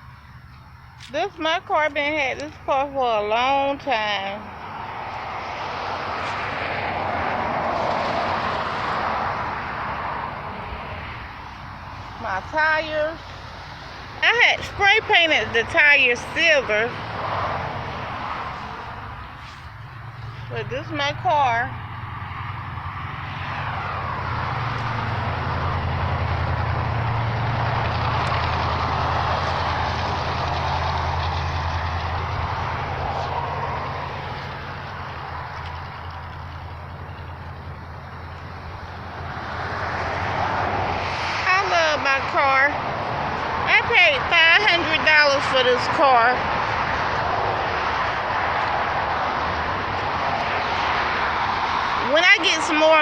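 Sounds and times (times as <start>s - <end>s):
vehicle passing by: 0.0s - 53.0s.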